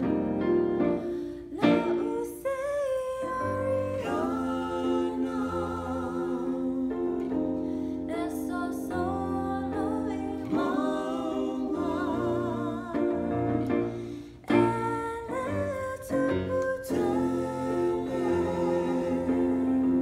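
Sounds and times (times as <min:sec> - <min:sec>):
woman and man singing: 0:01.5 - 0:13.4, 0:14.5 - 0:20.0
electronic keyboard chords: 0:03.4 - 0:20.0.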